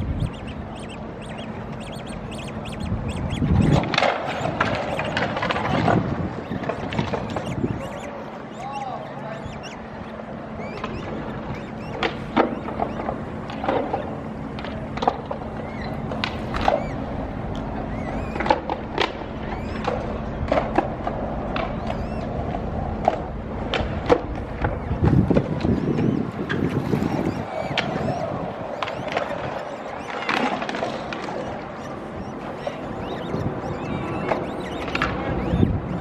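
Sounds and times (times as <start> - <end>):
bird calls and chirps: 0.0 - 18.7, 19.4 - 20.4, 21.5 - 22.4, 24.7 - 36.0
low background hum: 0.0 - 36.0.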